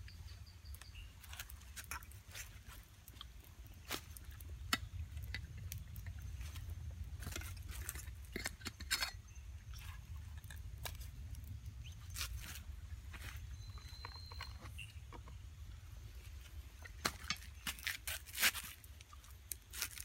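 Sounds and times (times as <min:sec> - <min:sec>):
low steady rumble: 0:00.0 - 0:17.8
campfire crackling and popping: 0:00.0 - 0:20.0.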